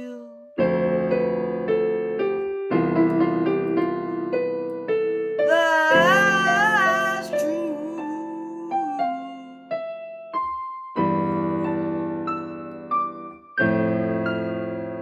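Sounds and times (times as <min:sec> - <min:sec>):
piano playing slowly: 0:00.0 - 0:15.0.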